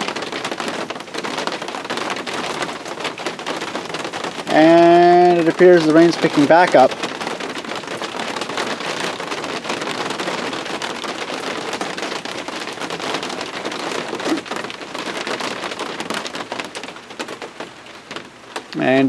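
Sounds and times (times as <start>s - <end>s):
heavy rain: 0.0s - 19.0s
raindrops clicking close by: 0.0s - 19.0s.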